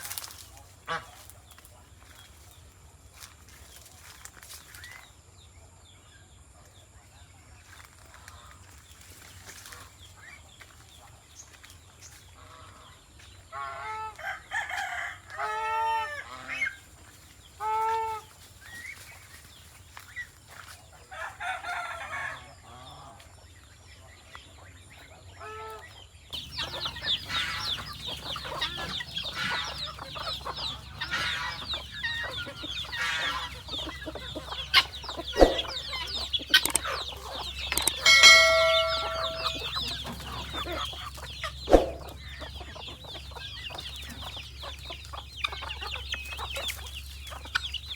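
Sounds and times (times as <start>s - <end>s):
chickens clucking: 0.0s - 2.6s, 7.6s - 47.9s.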